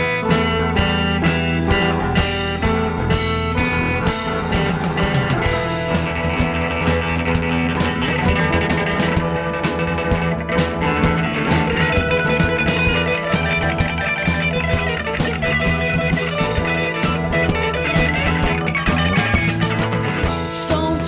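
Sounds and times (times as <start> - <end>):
drums: 0.0 - 21.0
rock guitar: 0.0 - 21.0.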